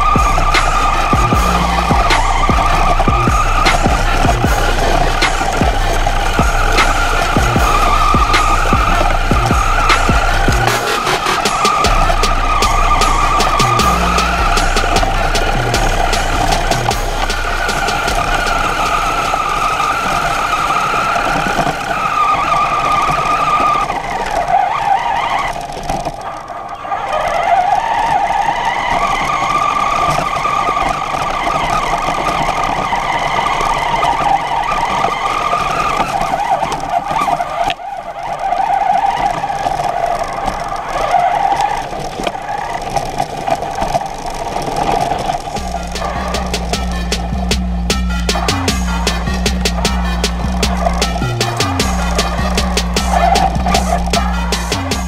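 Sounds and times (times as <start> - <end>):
toy truck motor whining: 0.0 - 55.0.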